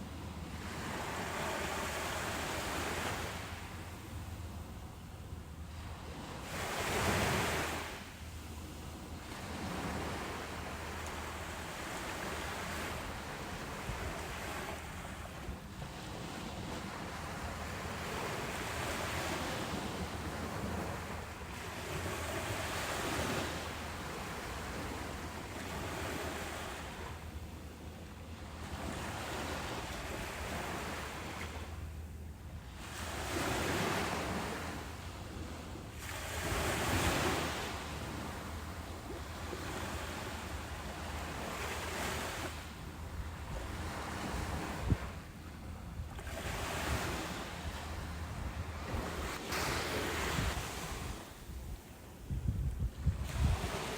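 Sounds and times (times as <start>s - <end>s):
ocean waves breaking: 0.0s - 52.3s, 52.9s - 53.9s.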